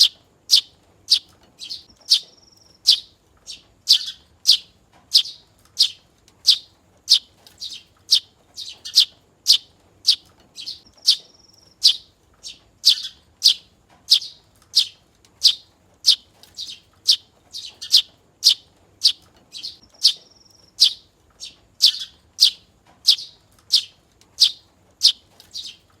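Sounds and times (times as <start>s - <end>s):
sparrow chirping: 0.0s - 25.9s.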